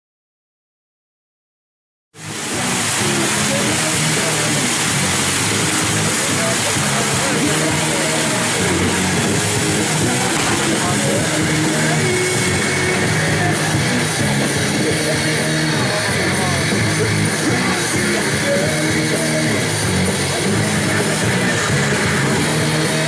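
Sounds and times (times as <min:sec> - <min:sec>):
rock music: 0:02.2 - 0:23.0.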